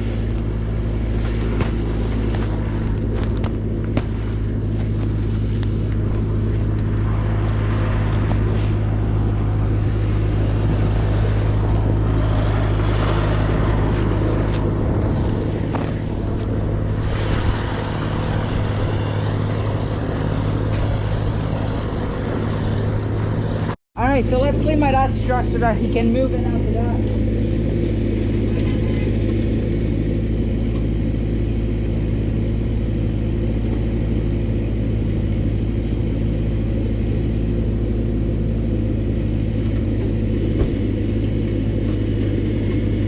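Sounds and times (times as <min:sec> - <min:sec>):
snowblower engine running: 0:00.0 - 0:43.0.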